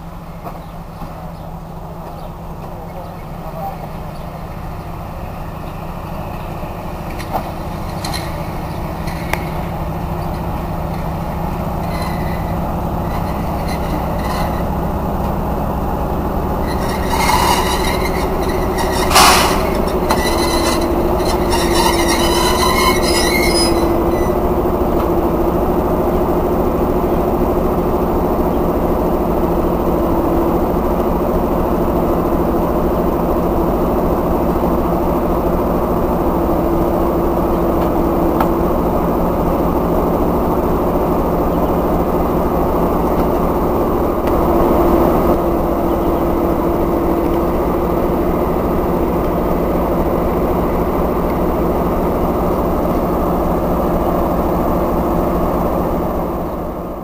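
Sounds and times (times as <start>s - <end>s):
diesel locomotive engine droning: 0.0s - 57.0s
wheels squealing: 2.1s - 27.4s, 35.5s - 57.0s.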